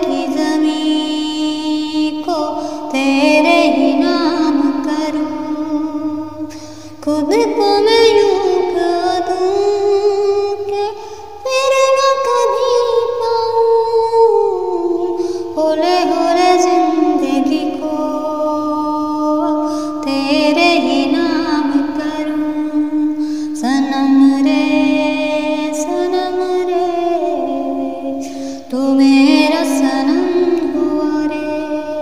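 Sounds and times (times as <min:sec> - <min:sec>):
woman singing unaccompanied: 0:00.0 - 0:32.0.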